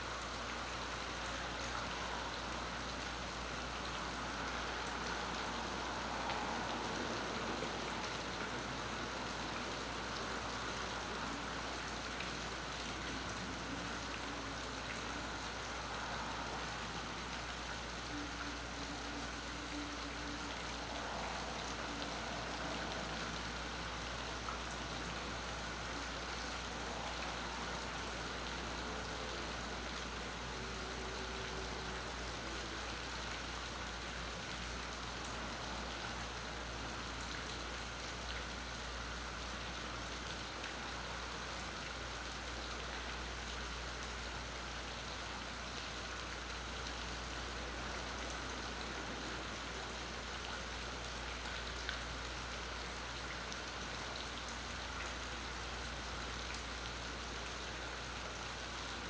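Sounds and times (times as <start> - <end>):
rain falling on water and boats: 0.0 - 59.0.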